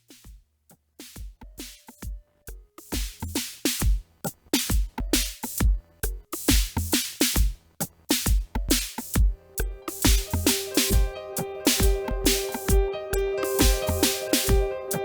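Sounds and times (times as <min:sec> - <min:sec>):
drum machine beat: 0:00.0 - 0:15.0.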